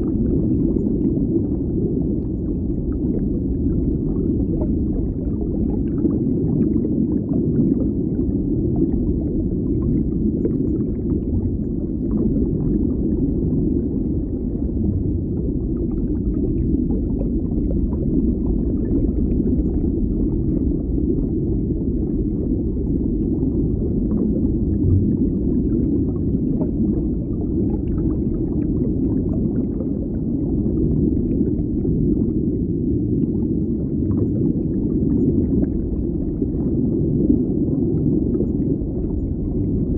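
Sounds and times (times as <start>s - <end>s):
low underwater rumble: 0.0s - 39.9s.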